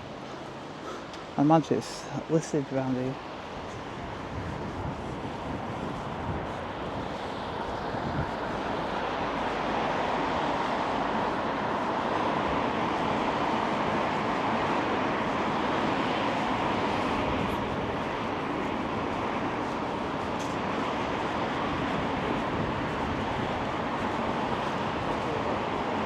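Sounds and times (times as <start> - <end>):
passing traffic rush: 0.0 - 26.0.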